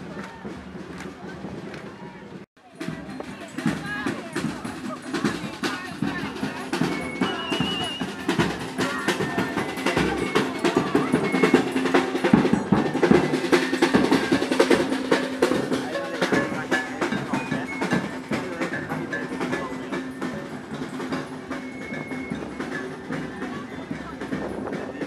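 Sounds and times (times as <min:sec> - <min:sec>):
snare and bass drums beating: 0:00.0 - 0:25.0.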